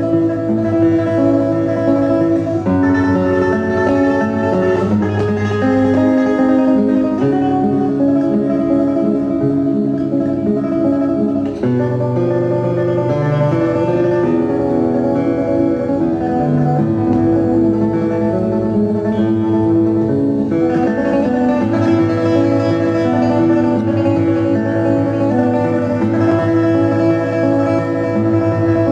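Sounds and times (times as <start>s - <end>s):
plucked string instrument: 0.0s - 28.9s.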